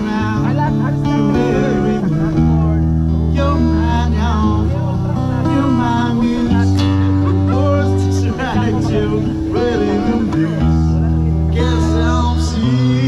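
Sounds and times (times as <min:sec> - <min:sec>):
song with guitar and vocals: 0:00.0 - 0:13.0.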